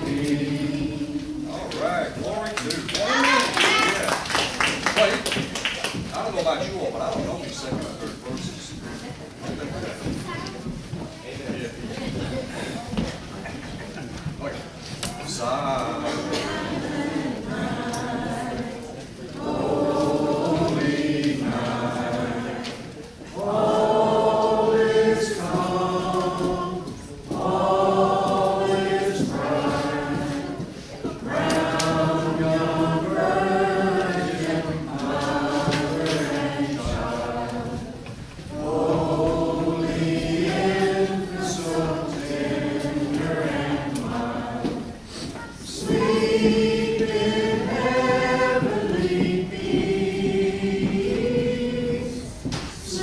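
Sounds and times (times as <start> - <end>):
congregation singing a carol: 0.0 - 2.3, 11.3 - 53.0.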